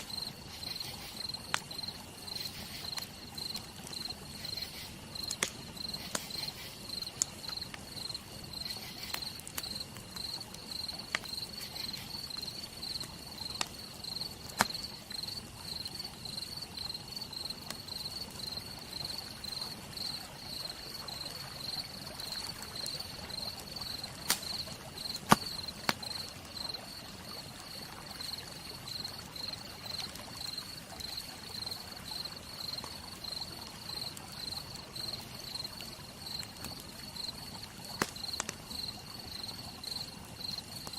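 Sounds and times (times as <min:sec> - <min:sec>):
campfire crackling and popping: 0:00.0 - 0:40.9
cricket chirping: 0:00.0 - 0:40.9
rain hissing: 0:00.0 - 0:40.9.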